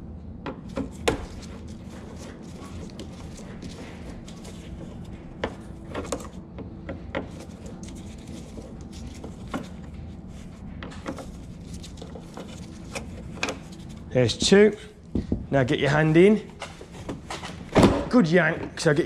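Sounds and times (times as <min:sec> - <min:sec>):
low hum: 0:00.0 - 0:18.7.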